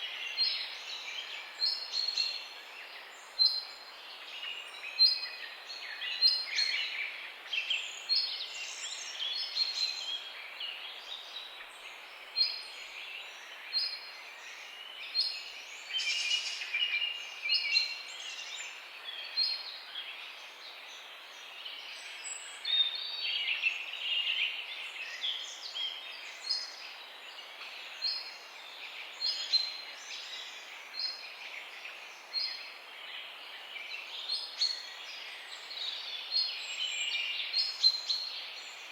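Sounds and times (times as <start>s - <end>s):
faint outdoor hiss: 0.0s - 38.9s.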